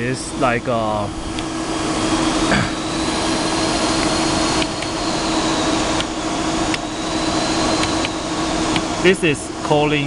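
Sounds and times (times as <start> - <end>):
faint high whine: 0.0 - 10.0
milling machine hum: 0.0 - 10.0.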